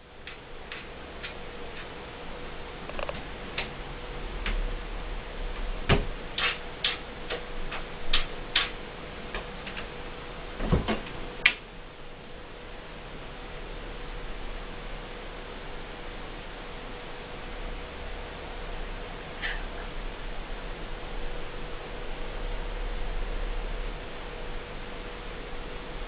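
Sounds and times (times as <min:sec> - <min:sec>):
steady hum and hiss: 0:00.0 - 0:26.0.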